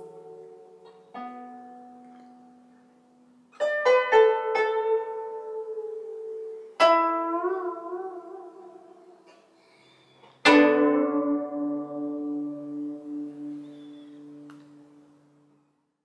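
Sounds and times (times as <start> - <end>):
plucked zither notes: 0.0 - 15.4.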